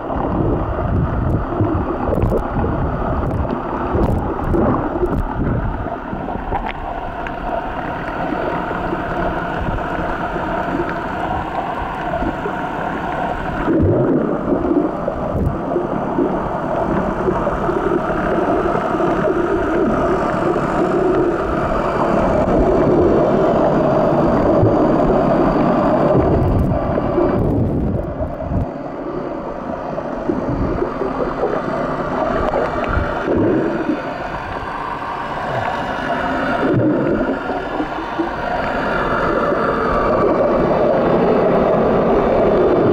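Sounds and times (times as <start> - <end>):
faint wavering whine: 0.0 - 42.9
underwater rumble of water: 0.0 - 42.9.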